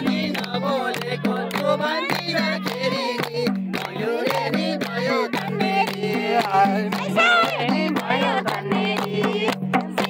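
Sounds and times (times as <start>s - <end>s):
steady beat: 0.0s - 10.0s.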